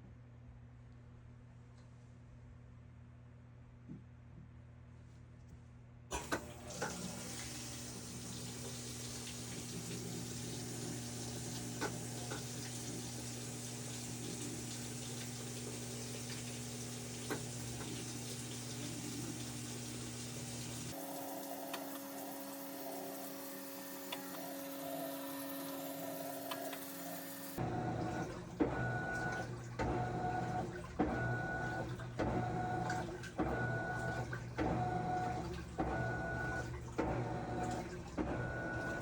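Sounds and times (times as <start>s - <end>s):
washing machine low hum: 6.1s - 39.0s
water rushing into washer: 6.1s - 39.0s.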